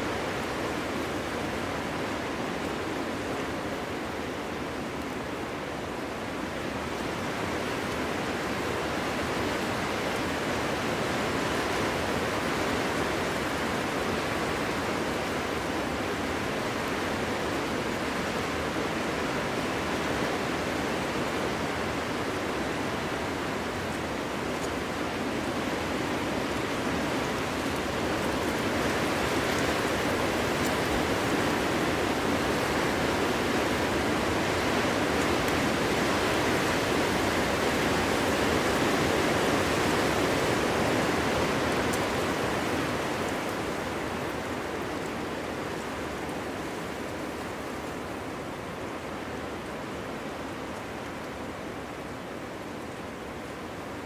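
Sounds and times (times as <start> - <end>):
wind blowing through forest: 0.0 - 54.0.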